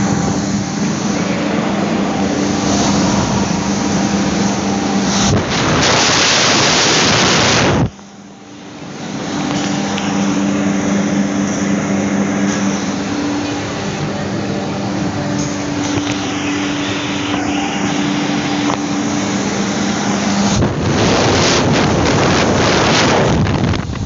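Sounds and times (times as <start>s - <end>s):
electric hand dryer running: 0.0s - 24.0s.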